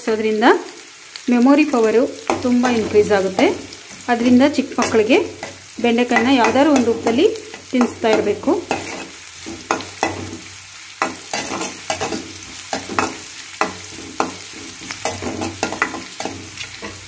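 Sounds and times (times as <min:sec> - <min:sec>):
onions sizzling in oil: 0:00.0 - 0:17.0
metal spatula scraping a pan: 0:01.8 - 0:17.0.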